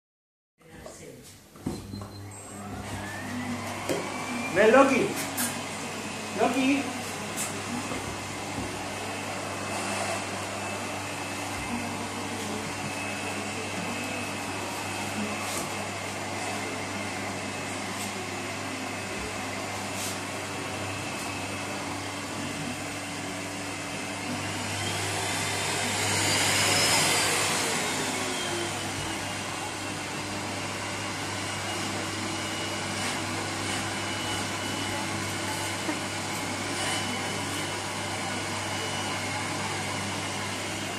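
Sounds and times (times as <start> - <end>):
vacuum cleaner running: 1.6 - 40.9.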